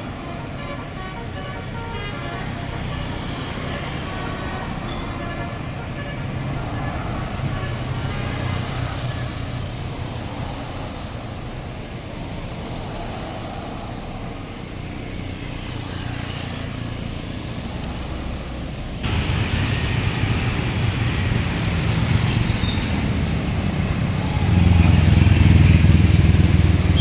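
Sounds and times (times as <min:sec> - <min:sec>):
vehicle engines rumbling: 0:00.0 - 0:27.0.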